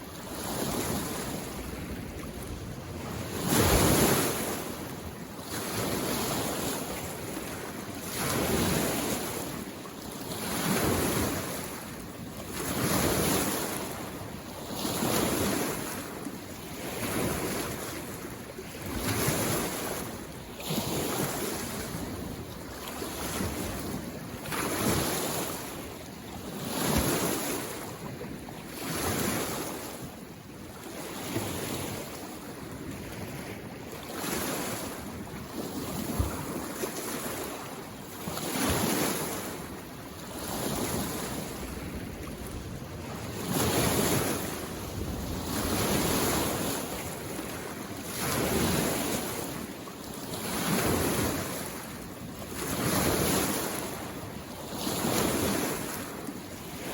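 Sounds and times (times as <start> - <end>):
lake waves washing in: 0.0 - 56.9.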